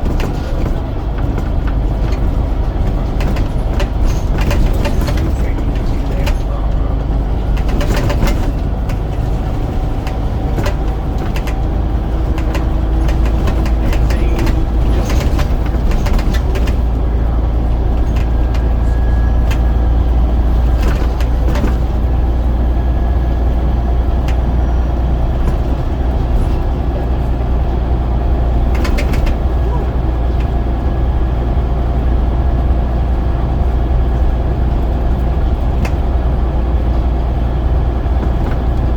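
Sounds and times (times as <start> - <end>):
bodywork rattles and clicks: 0.0 - 38.9
diesel bus engine droning: 0.0 - 38.9.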